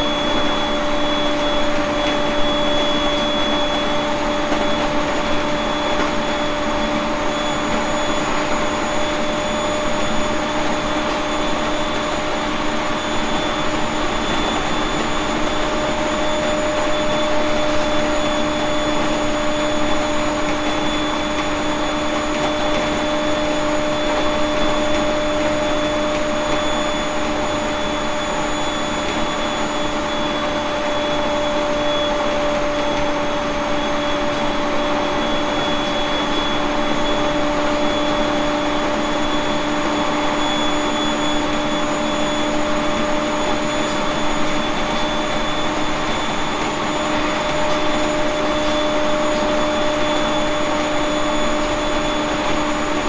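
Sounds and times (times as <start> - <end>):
steady whining tones: 0.0 - 53.0.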